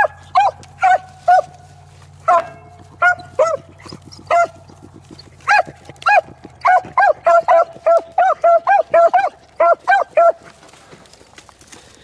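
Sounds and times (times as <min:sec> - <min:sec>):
dogs baying: 0:00.0 - 0:11.1.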